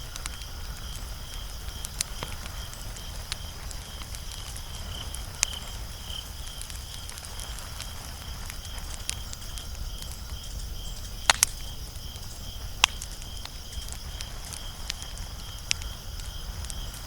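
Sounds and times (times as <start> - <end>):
sharp fire pops: 0.0 - 17.0
wood fire crackling: 0.0 - 17.0.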